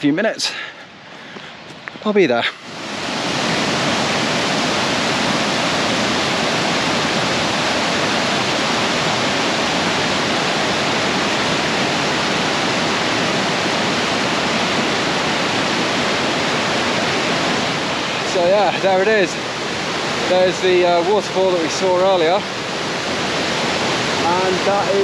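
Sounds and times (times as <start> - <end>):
waterfall rushing: 2.0 - 25.0.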